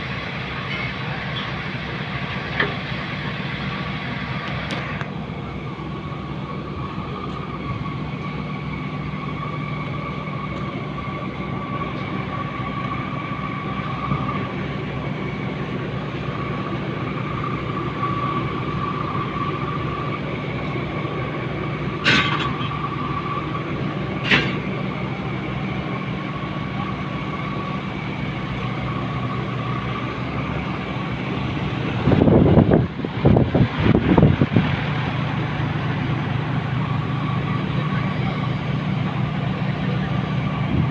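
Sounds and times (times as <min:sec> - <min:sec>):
machinery humming: 0:00.0 - 0:40.9.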